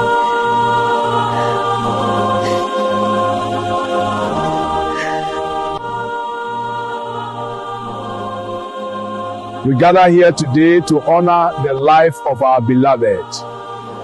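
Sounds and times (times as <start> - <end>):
choir-like chords: 0.0 - 14.0.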